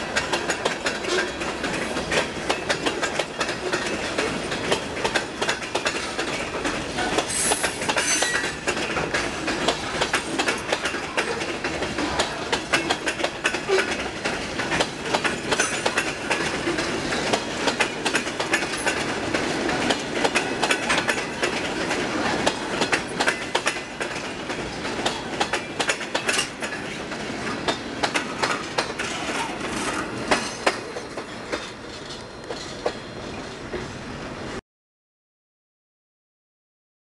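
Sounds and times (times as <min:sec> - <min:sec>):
train cars clicking and clanking: 0:00.0 - 0:34.6
train wheels rumbling on rail: 0:00.0 - 0:34.6.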